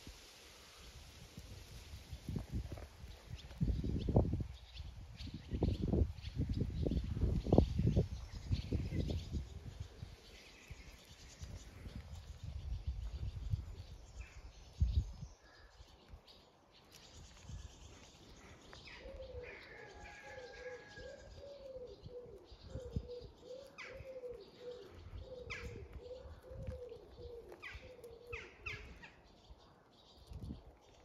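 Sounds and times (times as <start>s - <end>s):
small birds chirping: 0.6s - 31.0s.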